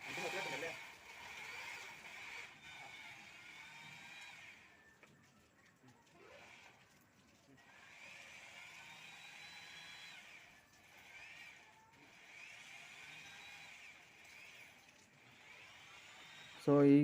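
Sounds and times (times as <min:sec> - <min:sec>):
electric drill whine: 0:00.0 - 0:05.1, 0:07.6 - 0:17.0.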